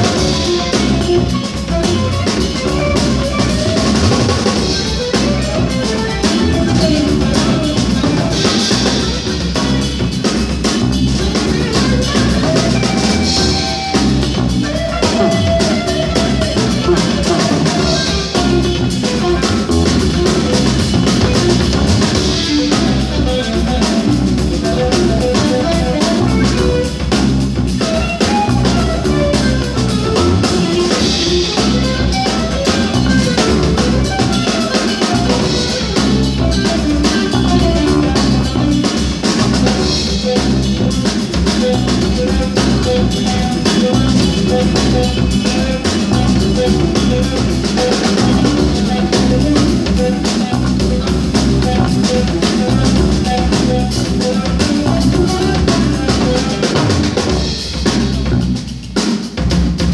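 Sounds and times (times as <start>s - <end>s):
drum kit groove: 0.0s - 59.9s
electric bass: 0.0s - 59.9s
electric guitar: 0.0s - 59.9s.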